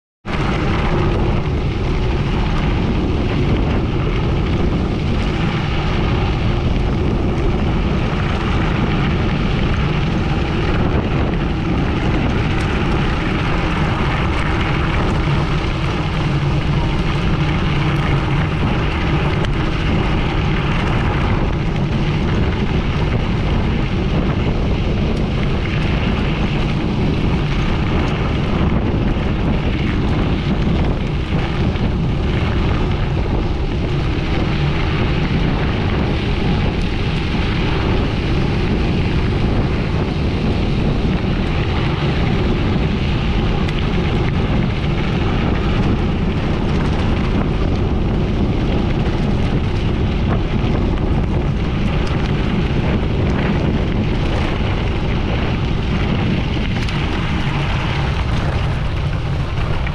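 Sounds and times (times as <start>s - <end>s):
bike tyres rumbling over gravel: 0.2s - 59.9s
wind rushing over microphone: 0.2s - 59.9s.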